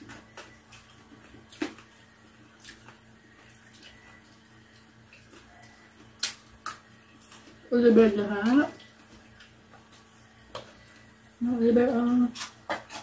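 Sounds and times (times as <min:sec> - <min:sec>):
faint chewing: 0:00.0 - 0:11.2.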